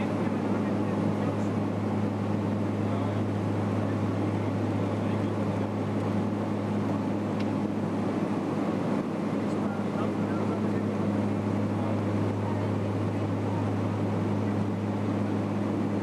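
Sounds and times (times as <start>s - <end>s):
aircraft engine drone in cabin: 0.0s - 16.0s.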